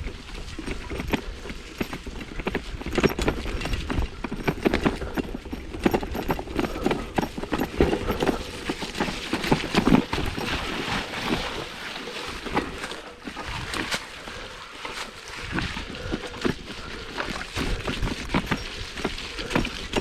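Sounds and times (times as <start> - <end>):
mountain bike rattling on dirt trail: 0.0 - 20.0.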